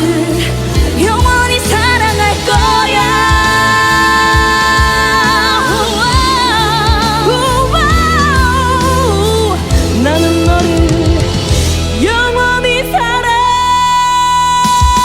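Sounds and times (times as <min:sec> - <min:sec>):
bass and drums beat: 0:00.0 - 0:15.0
person singing: 0:00.0 - 0:15.0.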